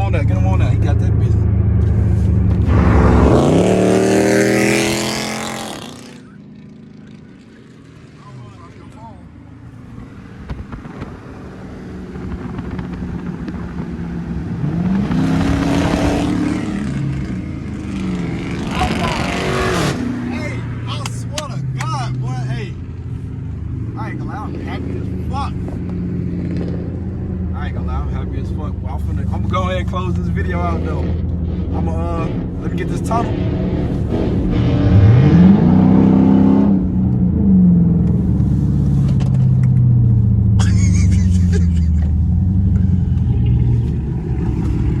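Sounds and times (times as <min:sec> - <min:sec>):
car exhaust accelerating: 0:00.0 - 0:45.0.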